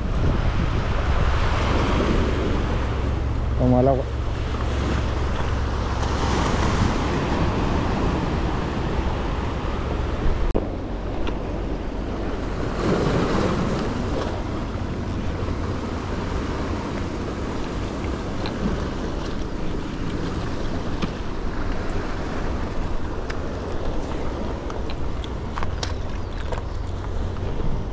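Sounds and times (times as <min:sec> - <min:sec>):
sea waves washing against rocks: 0:00.0 - 0:27.9
wind rumbling on microphone: 0:00.0 - 0:27.9.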